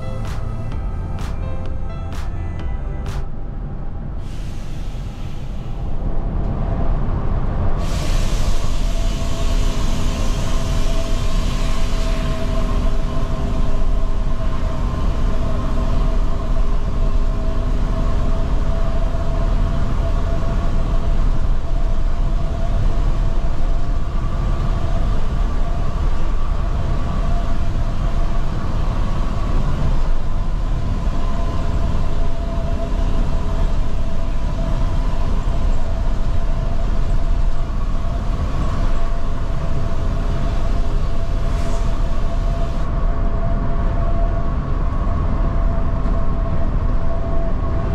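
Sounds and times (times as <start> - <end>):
engine and tyre rumble: 2.7 - 47.9.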